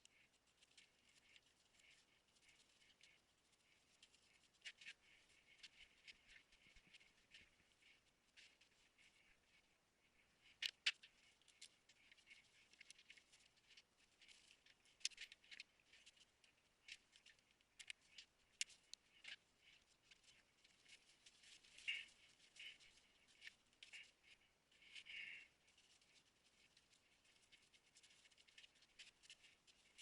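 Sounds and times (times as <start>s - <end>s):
faint clicks and rustles: 0.0s - 30.0s.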